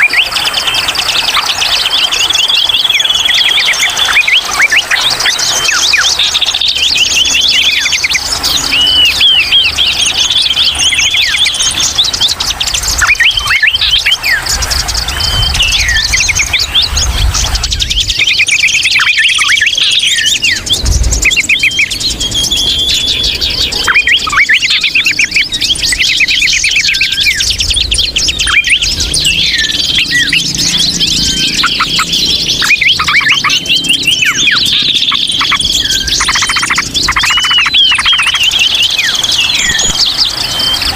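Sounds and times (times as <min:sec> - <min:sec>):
small birds chattering and chirping: 0:00.0 - 0:40.9.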